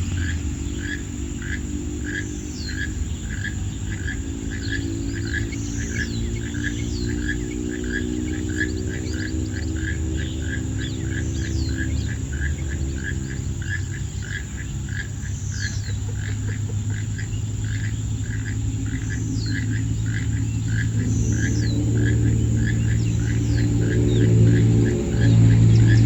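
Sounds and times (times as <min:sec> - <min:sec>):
frog calling: 0:00.0 - 0:26.0
high-pitched insect drone: 0:00.0 - 0:26.0
low rumble: 0:00.0 - 0:26.0.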